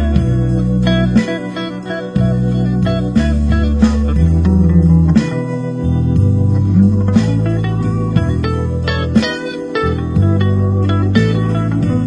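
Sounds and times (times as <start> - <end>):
bass line: 0.0 - 12.0
guitar music: 0.0 - 12.0.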